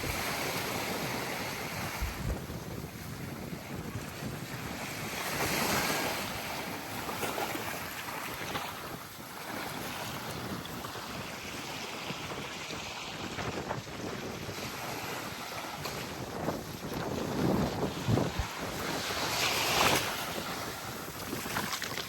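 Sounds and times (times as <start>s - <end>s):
small waves washing onto shore: 0.0s - 22.0s
wind buffeting microphone: 0.0s - 22.0s.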